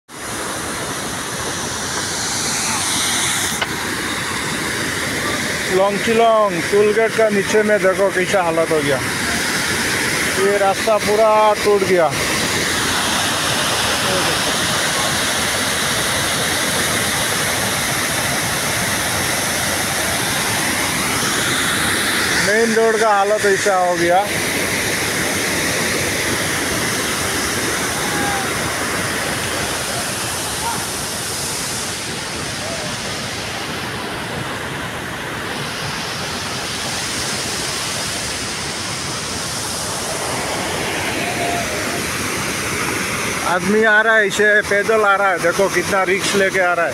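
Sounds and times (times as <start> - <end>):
floodwater rushing over rocks: 0.1 - 46.9.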